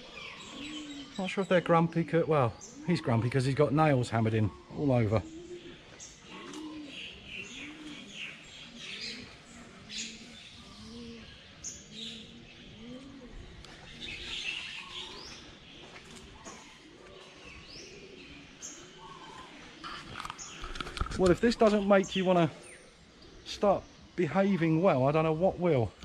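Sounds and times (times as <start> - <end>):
doves cooing: 0.0 - 26.0
small birds chirping: 0.0 - 26.0.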